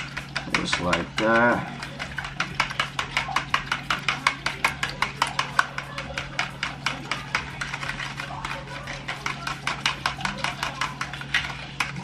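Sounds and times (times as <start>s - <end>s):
whisk clicking against bowl: 0.0s - 12.0s.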